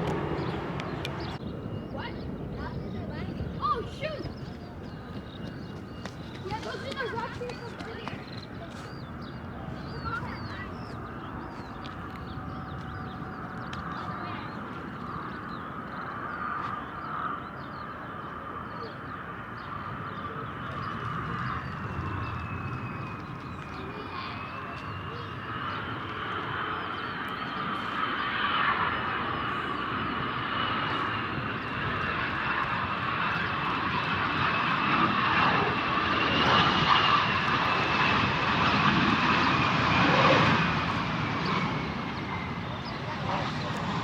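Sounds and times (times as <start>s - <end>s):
jet engines passing: 0.0s - 44.0s.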